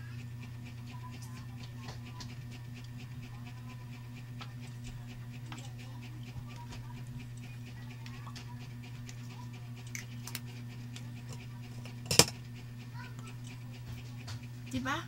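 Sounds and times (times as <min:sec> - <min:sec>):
rapid panting: 0:00.0 - 0:15.0
steady low hum: 0:00.0 - 0:15.0.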